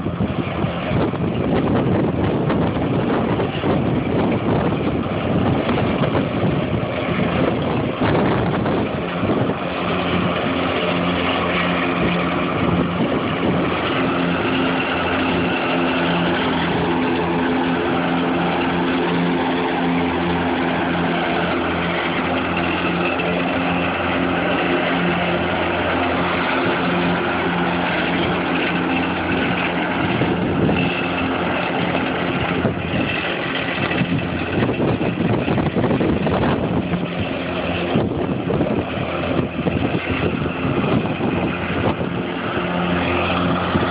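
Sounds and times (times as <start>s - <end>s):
electric mower humming: 0.0s - 43.9s.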